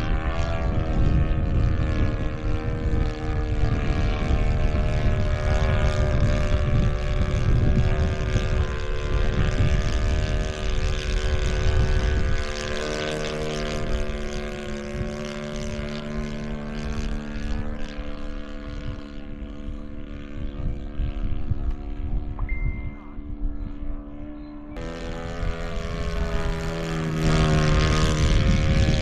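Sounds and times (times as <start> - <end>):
model airplane engine droning: 0.0 - 29.0
wind rumble on microphone: 0.0 - 29.0.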